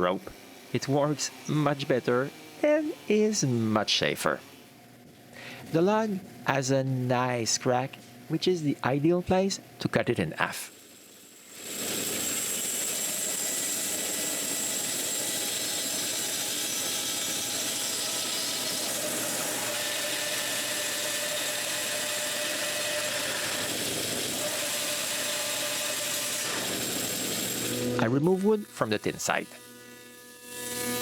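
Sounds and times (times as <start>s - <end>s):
power saw cutting wood: 0.0s - 31.0s.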